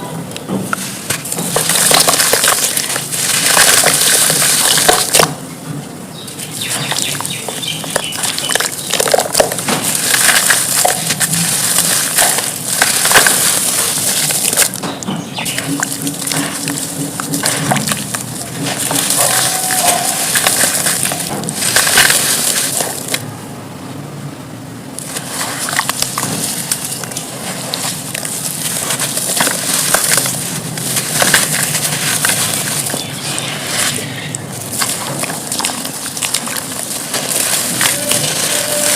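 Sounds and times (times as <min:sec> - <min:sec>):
charcoal crunching: 0:00.0 - 0:05.5, 0:06.1 - 0:23.3, 0:25.0 - 0:38.9.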